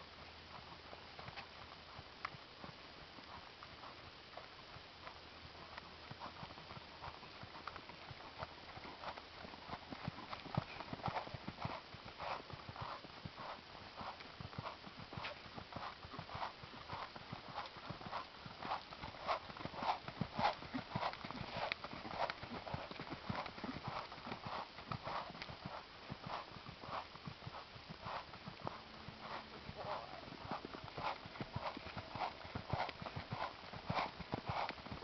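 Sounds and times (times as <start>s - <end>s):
animal hooves clip-clopping: 0.1s - 35.0s.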